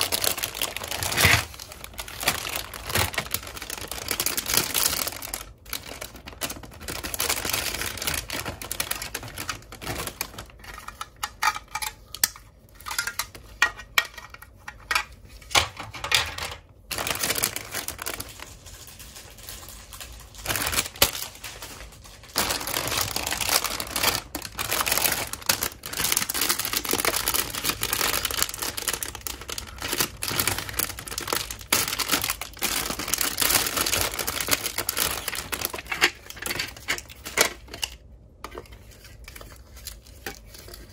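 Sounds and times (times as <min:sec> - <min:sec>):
plastic bags crinkling: 0:00.0 - 0:15.0, 0:15.6 - 0:40.9.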